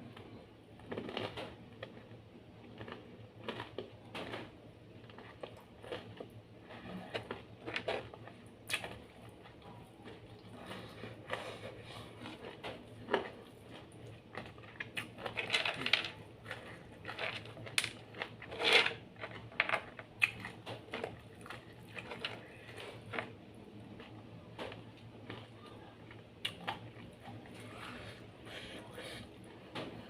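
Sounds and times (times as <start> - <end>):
person chewing and crunching food: 0.0 - 30.0.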